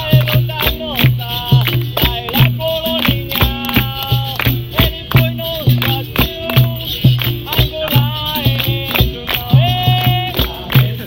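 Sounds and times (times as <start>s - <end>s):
tambourine jingles: 0.0s - 11.0s
voices singing: 0.0s - 11.0s.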